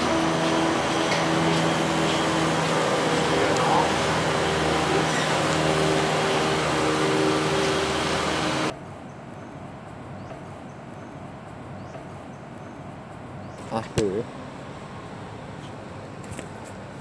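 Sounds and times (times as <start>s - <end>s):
road traffic noise: 0.0s - 17.0s
vehicle engine humming: 0.0s - 17.0s.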